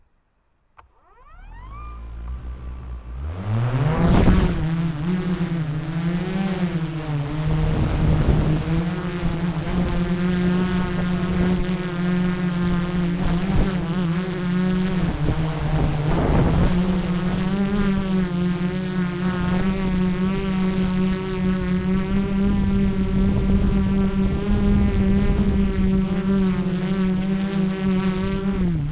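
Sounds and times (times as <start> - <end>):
drone propellers whining and buzzing: 0.8 - 28.9.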